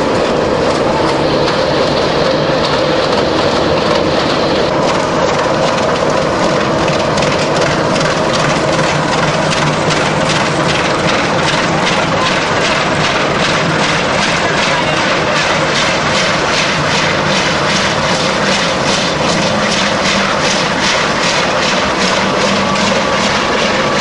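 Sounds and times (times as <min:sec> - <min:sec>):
knocks and clatter: 0:00.0 - 0:24.0
wood chipper motor droning: 0:00.0 - 0:24.0.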